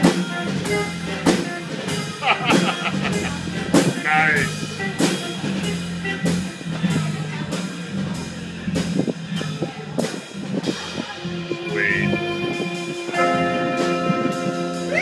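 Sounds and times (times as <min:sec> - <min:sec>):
blues band playing: 0:00.0 - 0:15.0.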